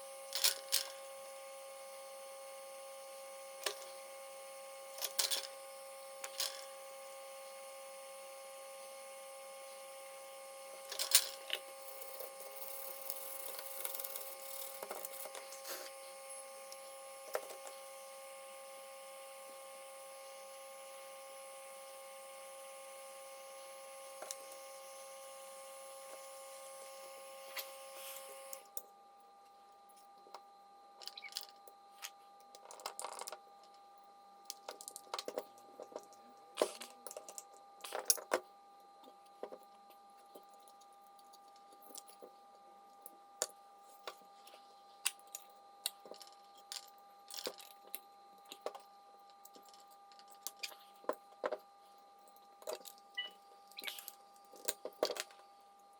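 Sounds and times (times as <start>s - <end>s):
electrical hum with held tones: 0.0s - 55.9s.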